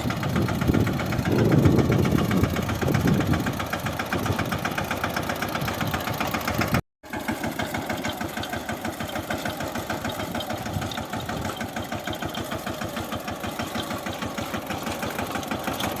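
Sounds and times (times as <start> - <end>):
diesel tractor engine knocking: 0.0 - 16.0.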